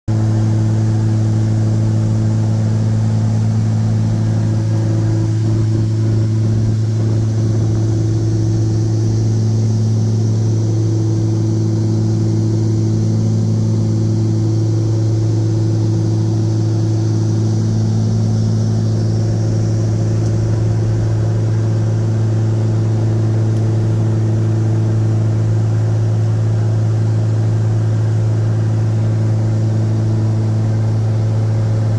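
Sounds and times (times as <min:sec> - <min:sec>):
aircraft engine droning: 0:00.1 - 0:31.9.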